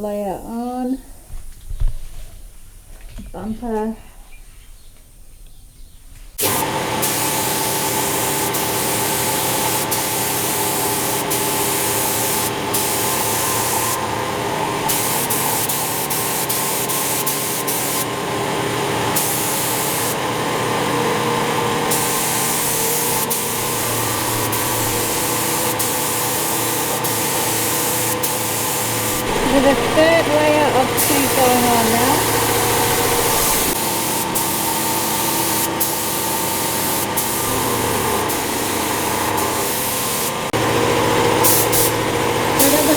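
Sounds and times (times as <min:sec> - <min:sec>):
paint spray gun hissing: 0:06.4 - 0:18.4, 0:19.0 - 0:20.2, 0:21.7 - 0:42.9
steady machine hum: 0:06.5 - 0:42.9.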